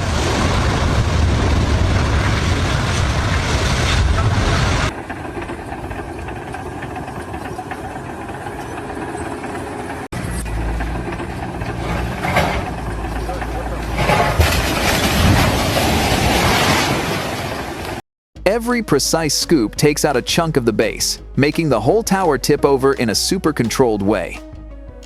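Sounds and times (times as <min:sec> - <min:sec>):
engine-driven machinery humming: 0:00.0 - 0:16.2, 0:17.8 - 0:25.0.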